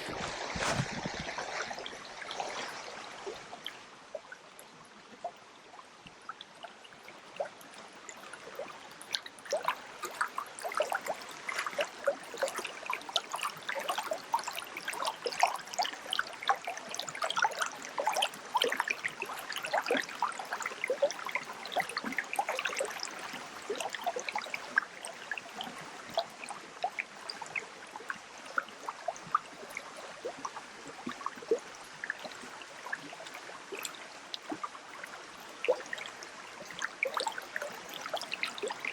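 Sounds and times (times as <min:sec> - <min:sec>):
water trickling in stream: 0:00.0 - 0:38.9.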